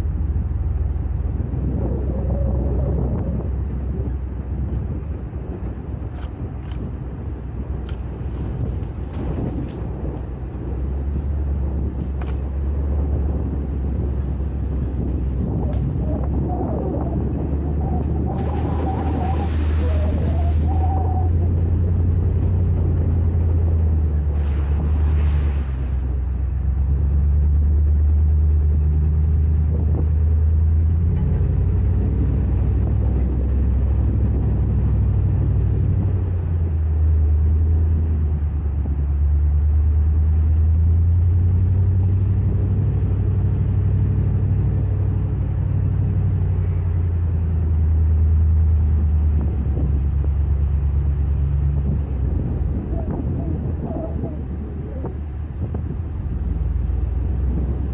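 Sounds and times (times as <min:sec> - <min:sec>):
vehicle engine running at low speed: 0:00.0 - 0:57.9.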